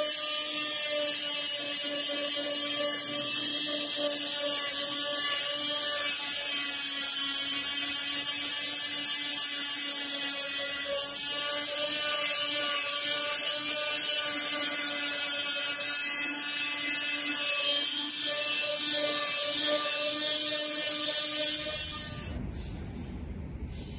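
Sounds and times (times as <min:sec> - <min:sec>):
multi-tool buzzing: 0:00.0 - 0:22.4
abrasive scraping metal: 0:00.0 - 0:23.9.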